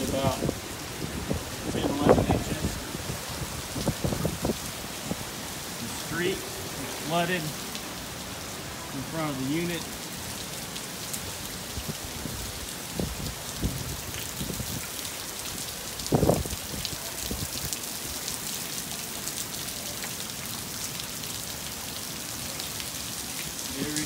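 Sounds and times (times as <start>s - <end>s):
heavy rain on standing water: 0.0s - 24.0s.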